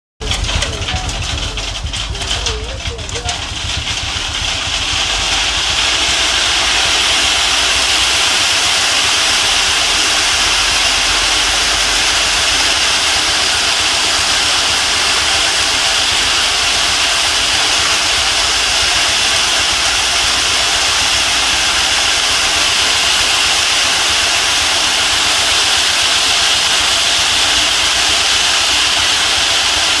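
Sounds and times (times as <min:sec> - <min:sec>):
loud steady rushing hiss: 0:00.2 - 0:30.0.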